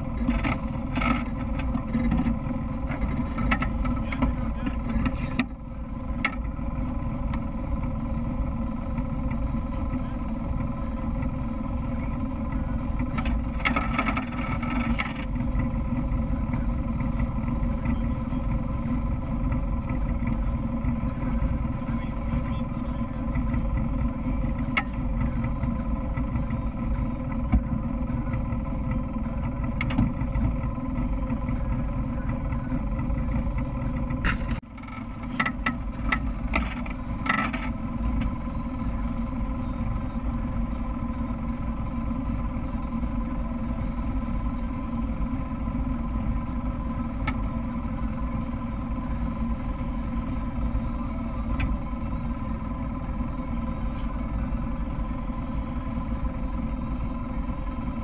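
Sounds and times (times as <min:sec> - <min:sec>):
atv engine idling: 0:00.0 - 0:58.0.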